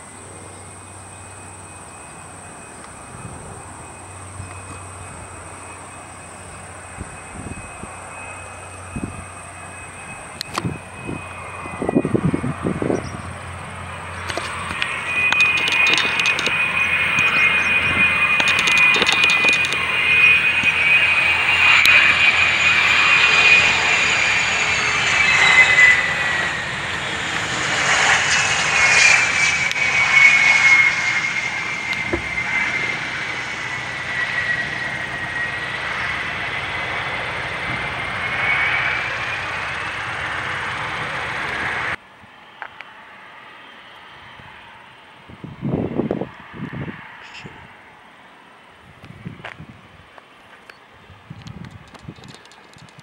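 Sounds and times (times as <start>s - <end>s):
airplane engine rush: 0.0s - 53.0s
airplane engine whine: 0.0s - 53.0s.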